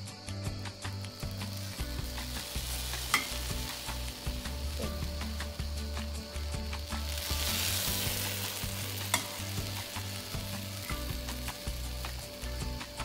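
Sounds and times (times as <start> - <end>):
syrup hissing on hot pastry: 1.2 - 13.0.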